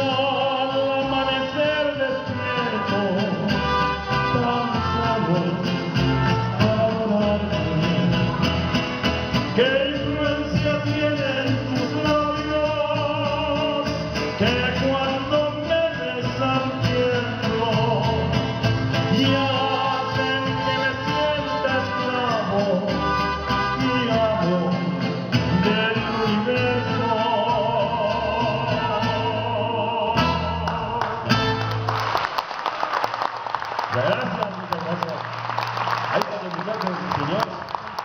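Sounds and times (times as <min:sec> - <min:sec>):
mariachi band playing: 0:00.0 - 0:38.0.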